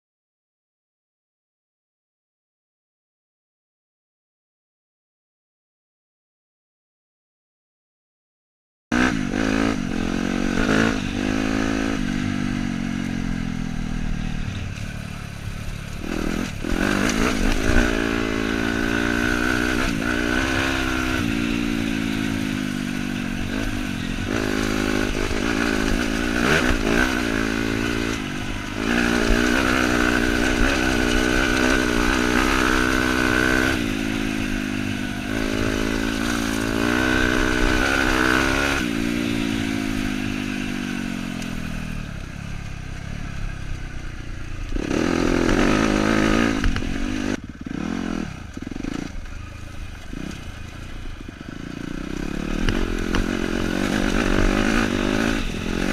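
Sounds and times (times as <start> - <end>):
dirt bike engine revving: 8.9 - 55.9.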